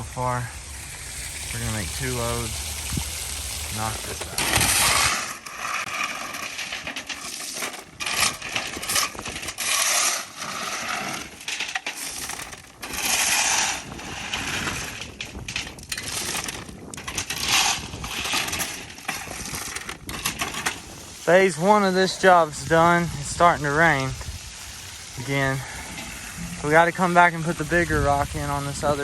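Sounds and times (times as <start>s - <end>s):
stones clattering and grinding: 4.3s - 29.0s.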